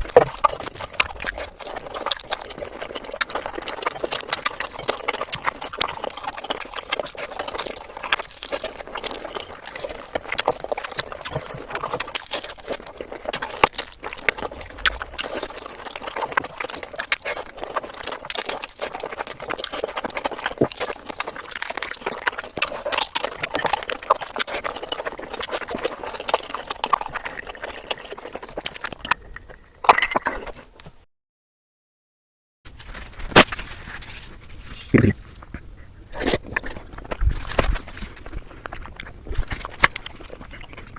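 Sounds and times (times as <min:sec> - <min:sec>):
person chewing and smacking: 0:00.0 - 0:30.6, 0:34.4 - 0:40.9.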